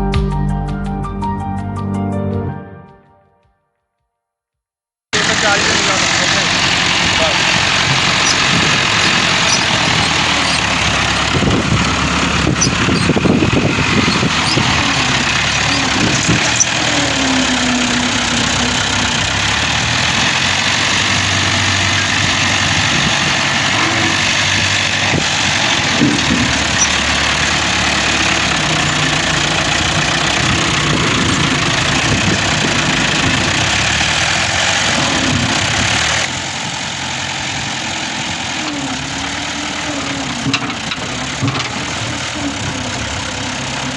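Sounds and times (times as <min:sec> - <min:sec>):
tractor diesel engine running: 0:05.1 - 0:43.9.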